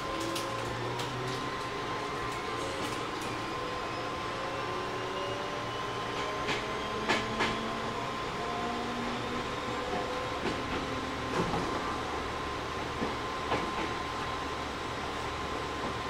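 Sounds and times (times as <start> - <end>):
train interior noise: 0.0 - 16.0.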